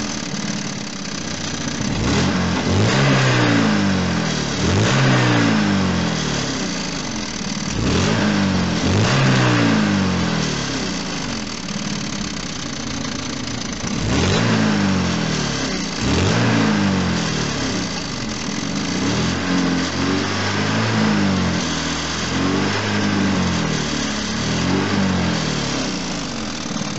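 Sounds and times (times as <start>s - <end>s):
petrol engine revving: 0.0s - 26.9s.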